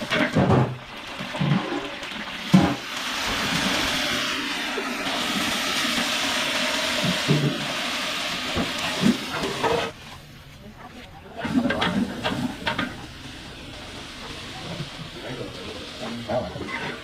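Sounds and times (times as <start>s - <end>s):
water gushing: 0.0s - 10.3s, 11.1s - 17.0s.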